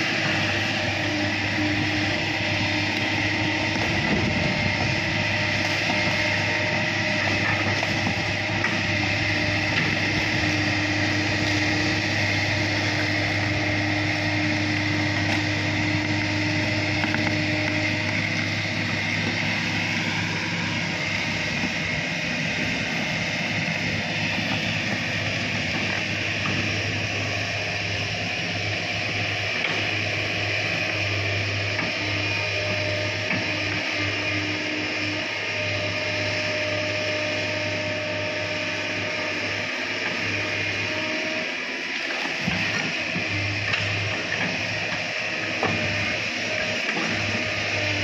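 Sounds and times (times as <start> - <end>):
excavator diesel engine running: 0.0 - 48.0
high whine: 0.0 - 48.0.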